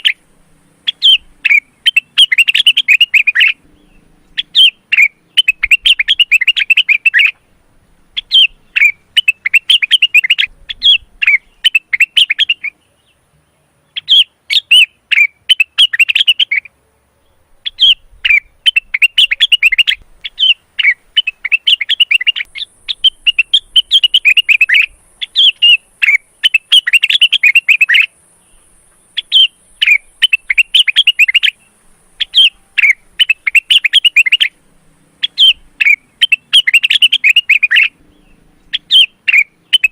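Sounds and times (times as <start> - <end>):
bird singing chattering bursts: 0.0 - 13.2, 13.9 - 16.7, 17.4 - 34.6, 35.2 - 39.9.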